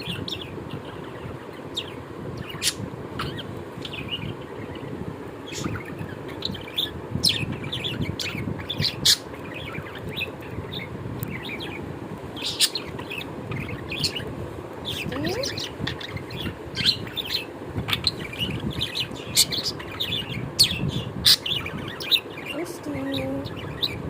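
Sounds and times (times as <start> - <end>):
low background noise: 0.0 - 24.0
small birds chirping: 0.0 - 24.0.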